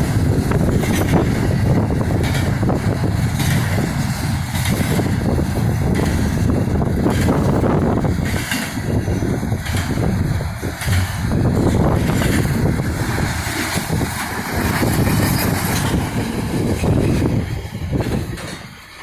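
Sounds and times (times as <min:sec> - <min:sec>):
wind and road noise: 0:00.0 - 0:19.0
wind buffeting microphone: 0:00.0 - 0:19.0.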